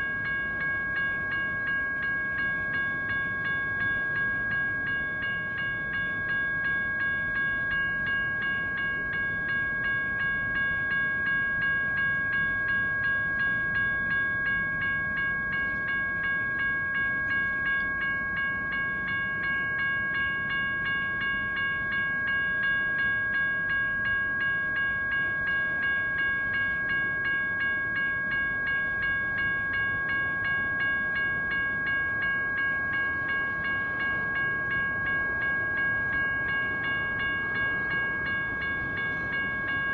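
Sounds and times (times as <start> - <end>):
crossing bells dinging: 0.0 - 39.9
passing train rumbling: 0.0 - 39.9.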